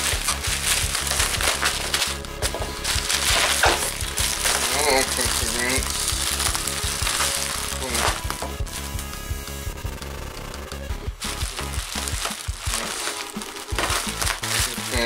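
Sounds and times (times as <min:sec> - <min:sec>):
bubble wrap crinkling: 0:00.0 - 0:09.0, 0:11.1 - 0:15.0.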